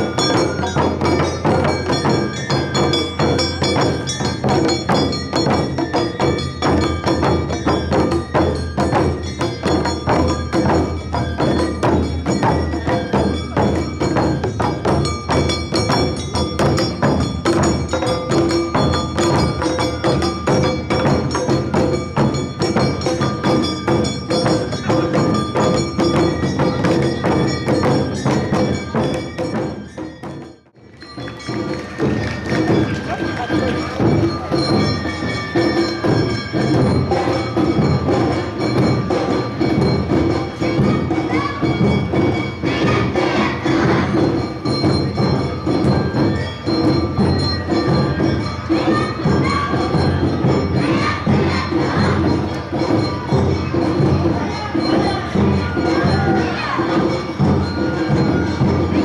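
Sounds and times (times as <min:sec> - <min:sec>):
taiko drums: 0:00.0 - 0:59.0.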